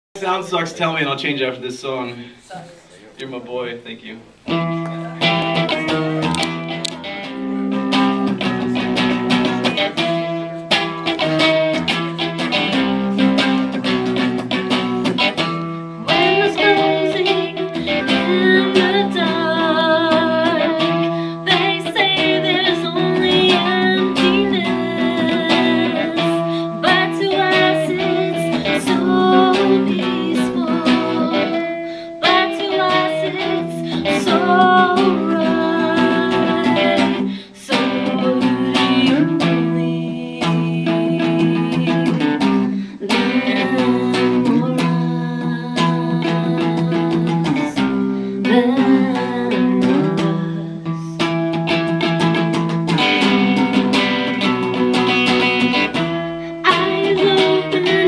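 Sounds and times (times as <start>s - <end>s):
woman singing: 4.5s - 14.2s, 14.8s - 58.0s
electric guitar strummed: 4.5s - 58.0s.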